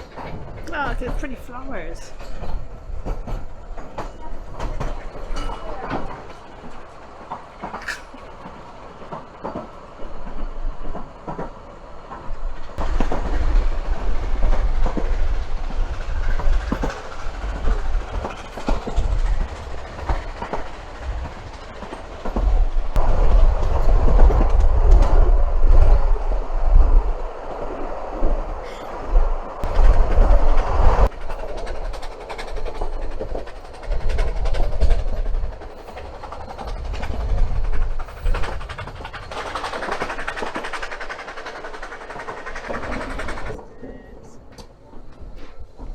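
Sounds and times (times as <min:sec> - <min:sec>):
wheels clicking over rail joints: 0:00.0 - 0:27.4, 0:28.2 - 0:45.9
train carriage rumble and rattle: 0:00.0 - 0:45.9.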